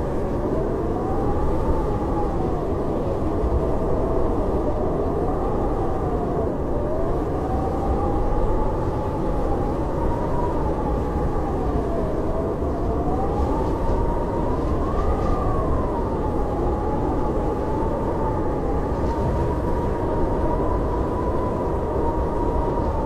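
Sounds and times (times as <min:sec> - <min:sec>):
blizzard wind howling: 0:00.0 - 0:23.0.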